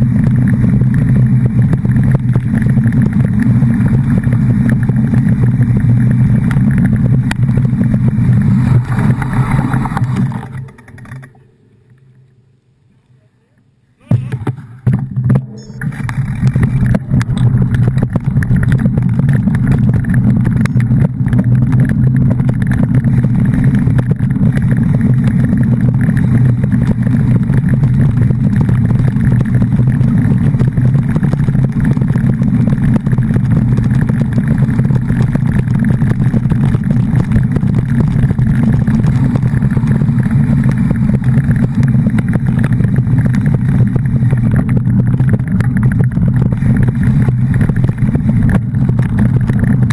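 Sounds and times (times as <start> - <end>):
motor vehicle engine rumbling: 0.0 - 49.9.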